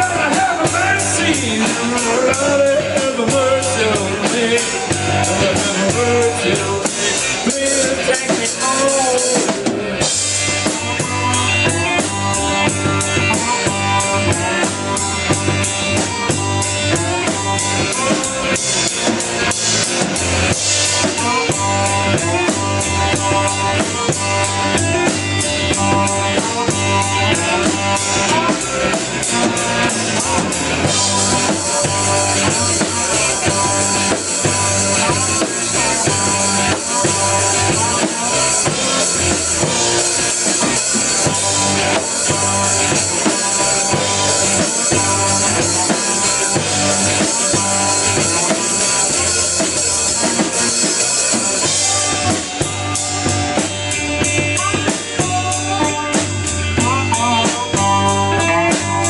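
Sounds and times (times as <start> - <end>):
bass: 0.0 - 59.0
drum kit beat: 0.0 - 59.0
guitar: 0.0 - 59.0.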